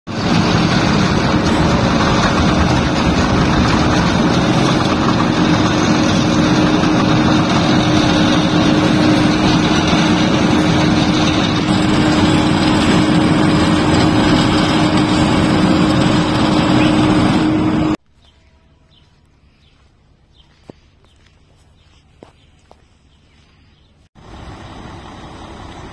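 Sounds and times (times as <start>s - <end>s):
paver engine droning: 0.1s - 23.5s, 24.2s - 25.9s
faint outdoor background: 0.1s - 25.9s.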